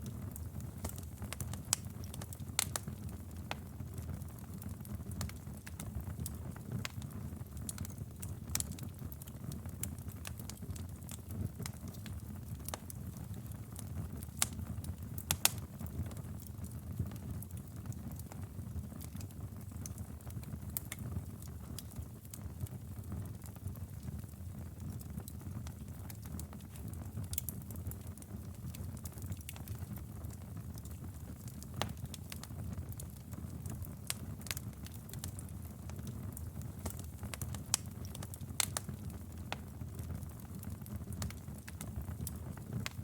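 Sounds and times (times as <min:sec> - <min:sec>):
flames rumbling: 0:00.0 - 0:43.0
wood fire pops and snaps: 0:00.1 - 0:22.8, 0:23.4 - 0:43.0.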